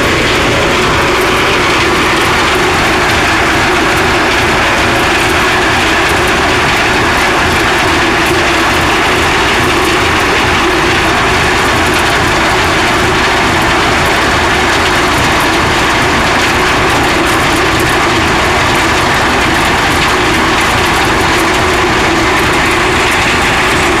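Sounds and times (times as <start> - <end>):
farm machinery engine drone: 0.0 - 24.0.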